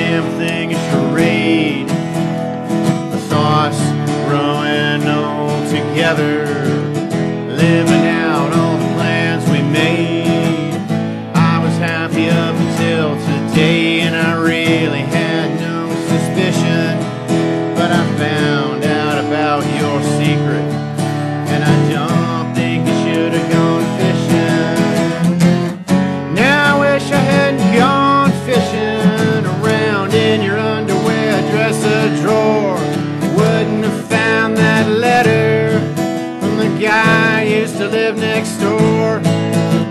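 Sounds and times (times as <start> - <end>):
country band playing live: 0.0 - 39.9
strummed acoustic guitar: 0.0 - 39.9.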